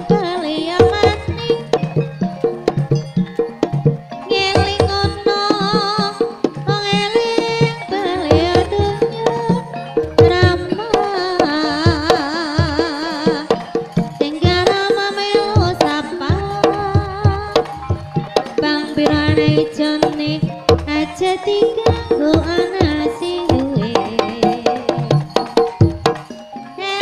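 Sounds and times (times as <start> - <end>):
person singing in wavering voice: 0.0 - 2.0, 4.2 - 25.3, 26.7 - 27.0
hand drum strokes: 0.0 - 27.0.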